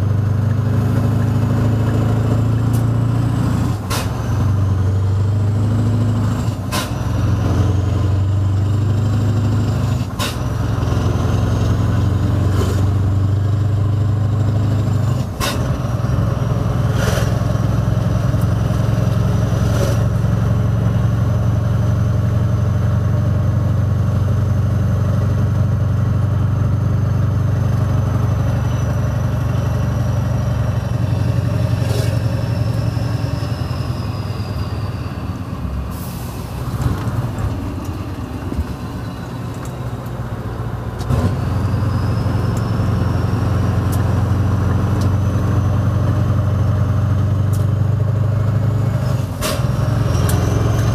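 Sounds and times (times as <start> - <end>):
deep truck engine drone: 0.0 - 50.9.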